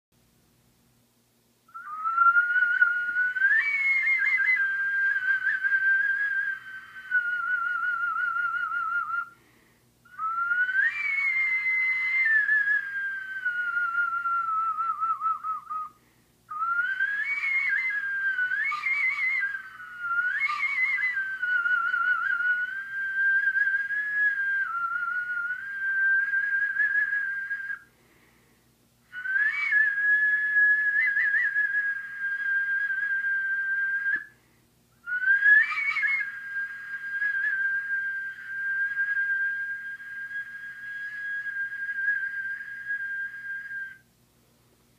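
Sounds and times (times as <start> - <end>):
stone flute whistling tones: 1.7 - 28.4, 29.1 - 44.1.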